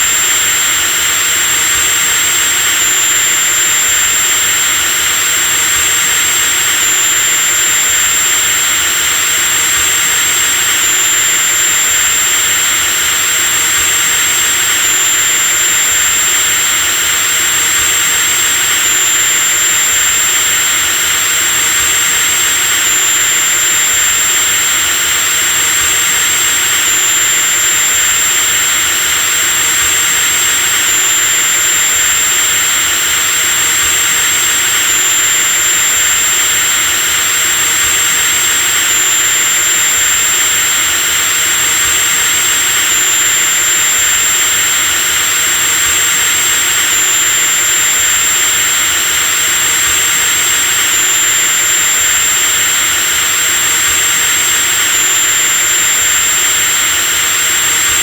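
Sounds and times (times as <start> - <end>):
electric drill running: 0.0 - 58.0.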